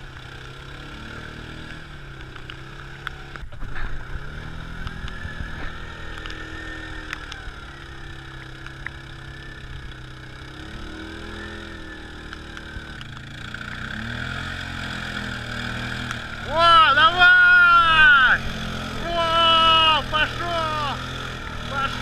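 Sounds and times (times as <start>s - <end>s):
four-wheeler engine running: 0.0s - 22.0s.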